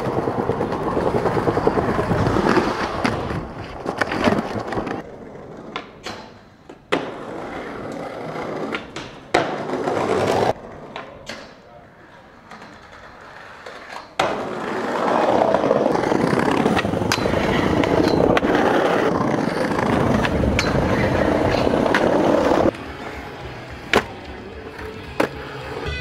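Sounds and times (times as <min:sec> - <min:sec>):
skateboard clacks: 0:00.0 - 0:25.8
skateboard wheels rolling: 0:00.0 - 0:26.0.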